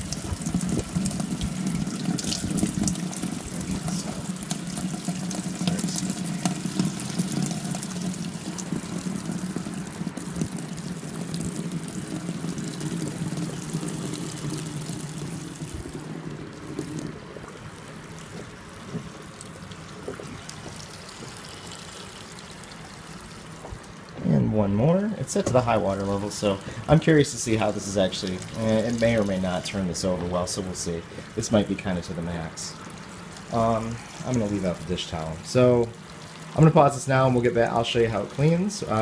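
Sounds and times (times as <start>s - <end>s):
water pouring into washer tub: 0.0s - 24.2s, 25.0s - 39.0s.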